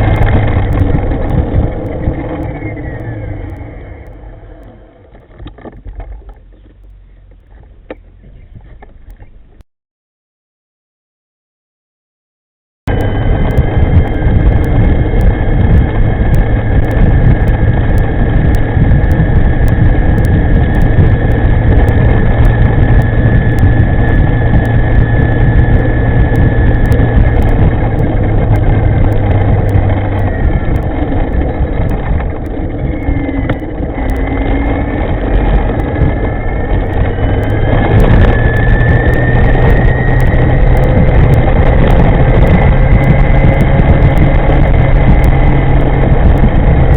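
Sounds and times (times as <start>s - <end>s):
electric motor whine: 0.0s - 9.6s, 12.9s - 46.9s
wind rumble on microphone: 0.0s - 9.6s, 12.9s - 46.9s.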